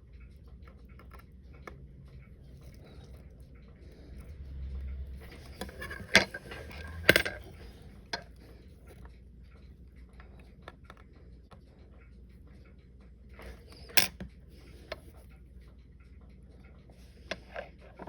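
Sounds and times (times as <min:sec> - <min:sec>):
metal tools clicking and tapping: 0:00.0 - 0:15.7.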